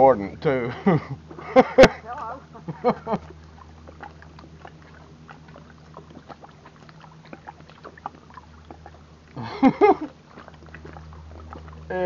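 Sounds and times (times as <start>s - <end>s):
boat motor droning: 0.0s - 12.0s
water splashes: 0.7s - 12.0s.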